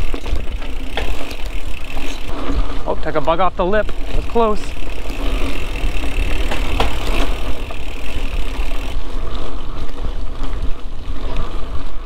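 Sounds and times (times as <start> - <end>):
bike clicks and rattles: 0.0 - 12.0
wind rumbling on microphone: 0.0 - 12.0.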